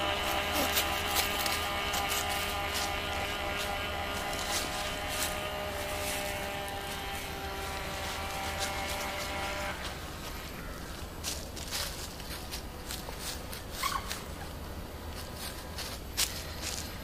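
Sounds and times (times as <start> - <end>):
electric motor buzzing whine: 0.0 - 17.0.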